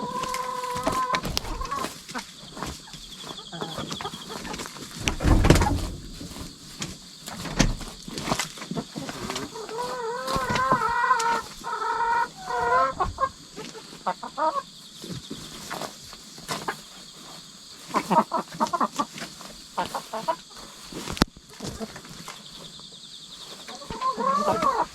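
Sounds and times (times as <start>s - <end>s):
hen scratching floor litter: 0.0s - 24.9s
hens clucking: 0.0s - 24.9s.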